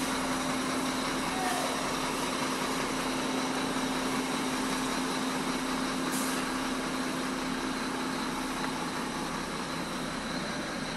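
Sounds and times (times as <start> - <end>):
diesel engine idling: 0.0 - 10.9.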